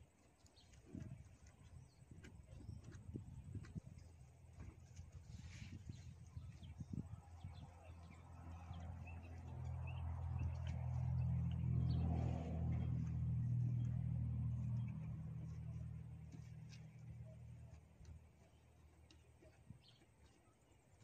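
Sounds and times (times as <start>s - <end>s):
passing motor vehicle engine hum: 0.5s - 21.0s.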